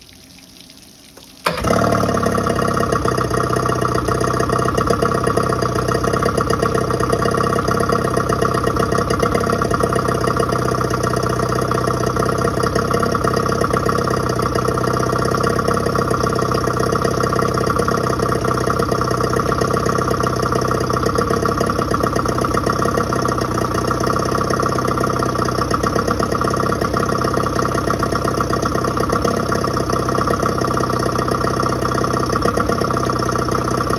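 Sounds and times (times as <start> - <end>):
outboard motor idling: 1.2 - 33.9.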